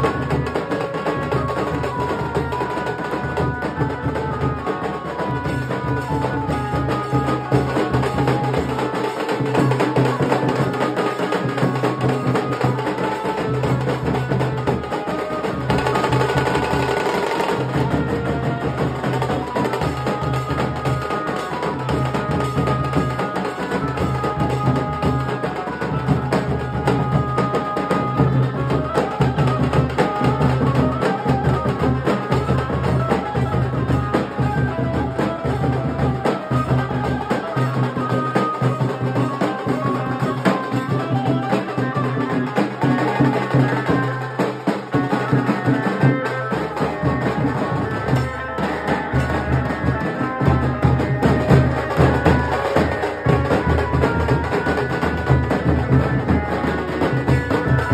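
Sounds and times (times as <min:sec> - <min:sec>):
dhol drums beating: 0:00.0 - 0:57.9.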